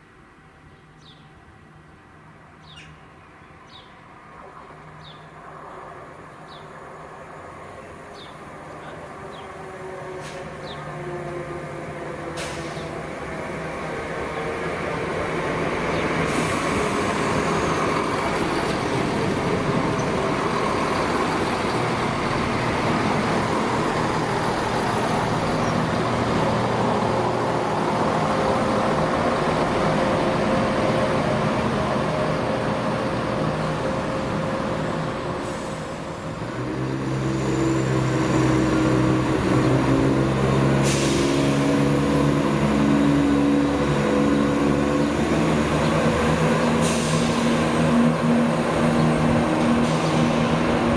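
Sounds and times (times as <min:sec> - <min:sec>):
diesel train engine drone: 0:00.0 - 0:50.9
train rumble: 0:05.4 - 0:50.9.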